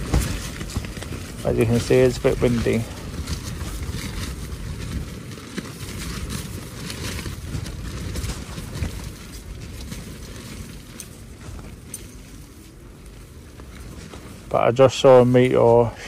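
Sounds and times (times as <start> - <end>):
gusty wind on microphone: 0.0 - 14.8
tent fabric crackling: 0.0 - 16.0.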